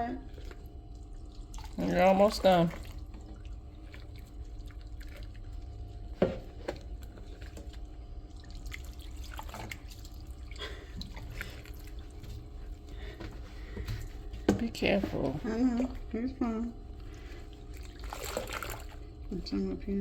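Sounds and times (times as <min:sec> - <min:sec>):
low steady hum: 0:00.0 - 0:20.0
water dripping and splashing: 0:00.2 - 0:14.7, 0:16.9 - 0:19.2.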